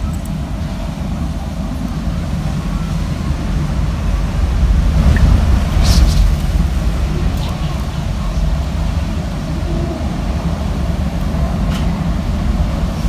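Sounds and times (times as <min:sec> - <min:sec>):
strong wind gusting at window: 0:00.0 - 0:13.0.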